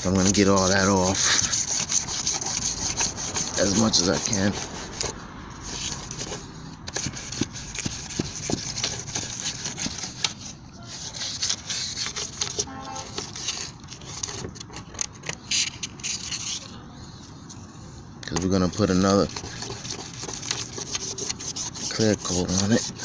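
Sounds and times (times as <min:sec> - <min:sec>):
sandpaper scraping plastic: 0:00.0 - 0:16.7, 0:18.4 - 0:23.0.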